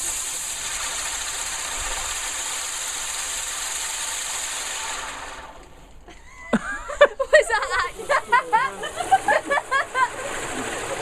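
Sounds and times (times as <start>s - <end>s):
firework hissing sparks: 0.0s - 11.0s.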